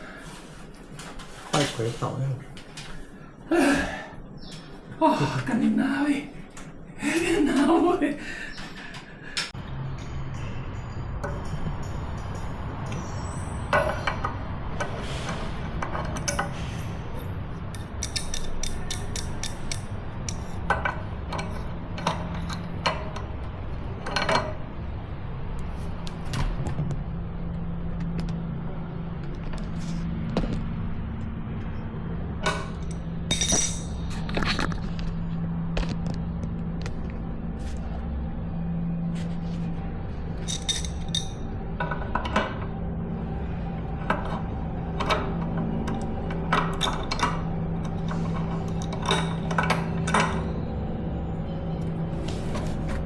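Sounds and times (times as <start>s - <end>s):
low hum: 0.0s - 53.0s.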